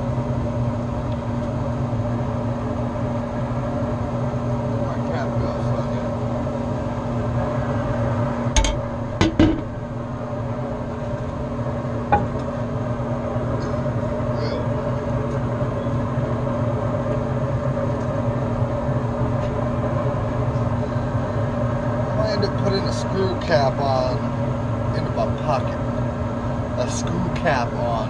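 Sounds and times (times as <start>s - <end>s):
mechanical hum: 0.0s - 28.0s.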